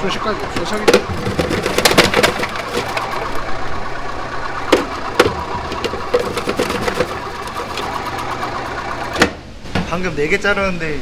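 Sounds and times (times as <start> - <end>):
onion cutting machine running: 0.0 - 9.5
low motor hum: 0.0 - 9.8.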